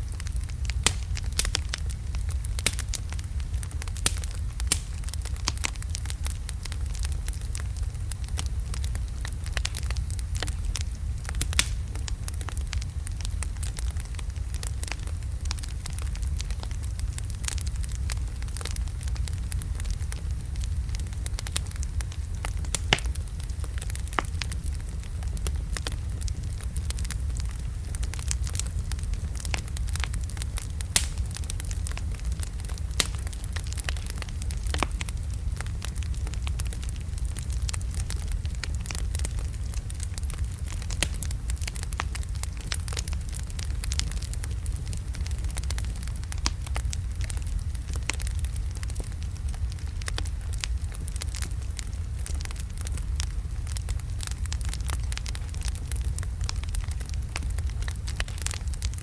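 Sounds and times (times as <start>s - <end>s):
fire crackling and popping: 0.0s - 59.0s
low rumble of flame: 0.0s - 59.0s.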